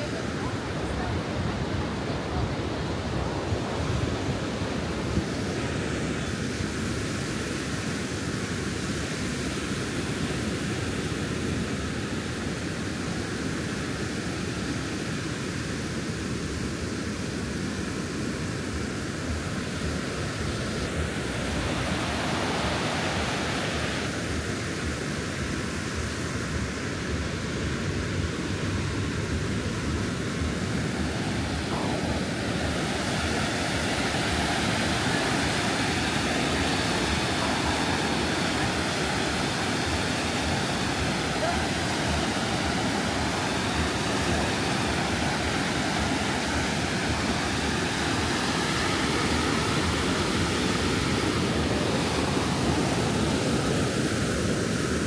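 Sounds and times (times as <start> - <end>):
ocean surf on beach: 0.0 - 55.0.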